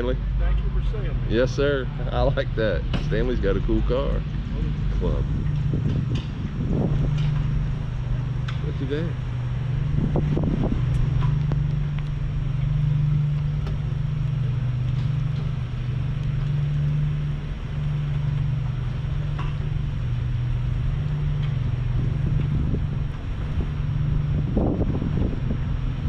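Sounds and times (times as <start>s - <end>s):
machine humming: 0.0s - 26.0s
wind noise on microphone: 2.8s - 26.0s.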